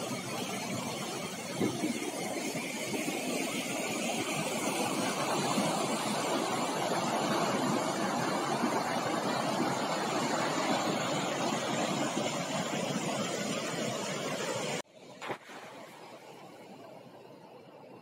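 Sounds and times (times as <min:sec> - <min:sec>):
river rapids rushing over rocks: 0:00.2 - 0:15.4.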